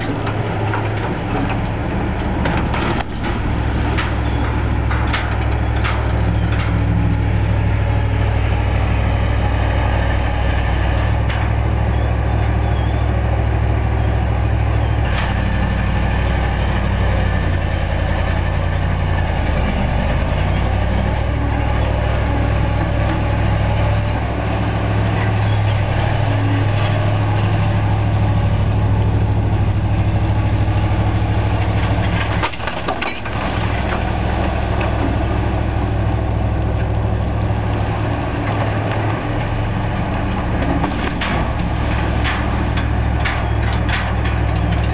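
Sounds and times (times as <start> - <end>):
excavator engine droning: 0.0 - 44.9.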